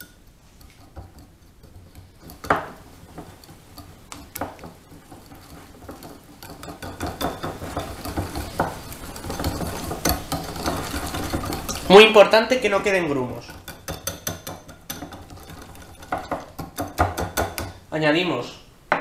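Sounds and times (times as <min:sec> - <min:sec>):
whisk tapping and scraping bowl: 0:00.0 - 0:17.9.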